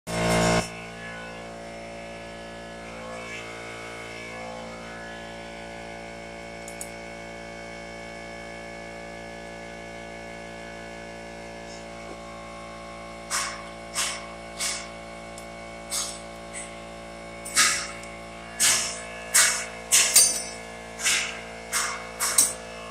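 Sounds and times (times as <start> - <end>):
electrical hum: 0.1 - 22.9.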